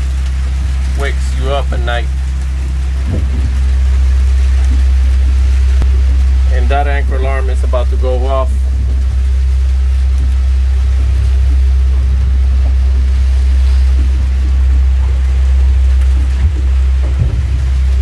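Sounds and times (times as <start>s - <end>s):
low rumble: 0.0s - 18.0s
rain: 0.0s - 18.0s
wind: 0.0s - 18.0s.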